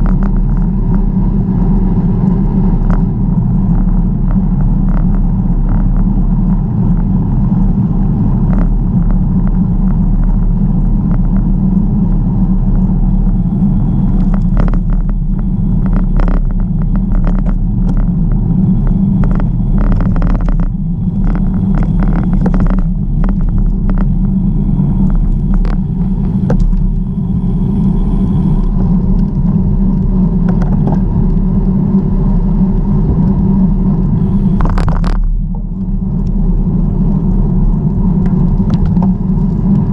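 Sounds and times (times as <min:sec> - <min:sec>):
bicycle tyre noise: 0:00.0 - 0:39.9
sharp clicks and rattles: 0:00.0 - 0:39.9
wind noise on camera: 0:00.0 - 0:39.9.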